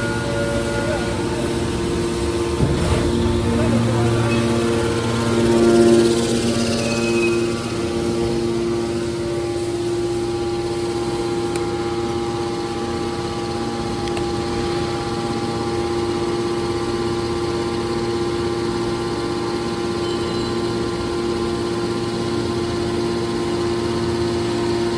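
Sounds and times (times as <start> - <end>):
hydraulic motor and pump humming: 0.0 - 24.9.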